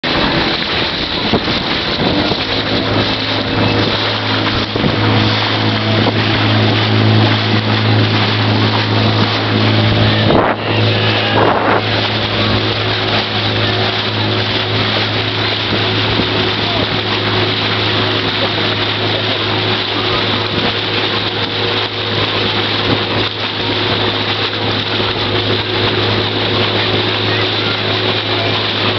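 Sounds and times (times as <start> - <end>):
motorboat engine humming: 0.0 - 28.9
water rushing past hull: 0.0 - 28.9
wind on microphone: 0.0 - 28.9.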